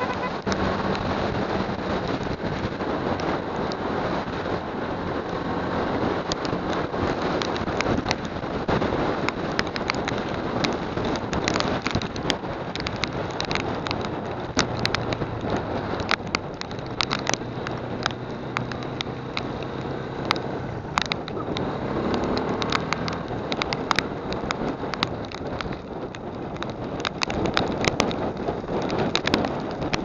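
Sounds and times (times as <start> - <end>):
raindrops ticking on microphone: 0.0 - 30.0
wind and rain rushing: 0.0 - 30.0.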